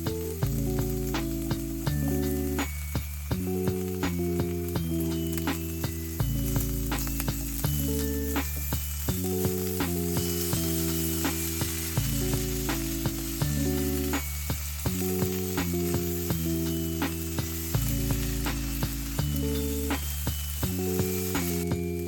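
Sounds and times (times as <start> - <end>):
background music with light beat: 0.0 - 22.0
food sizzling while frying: 0.0 - 22.0.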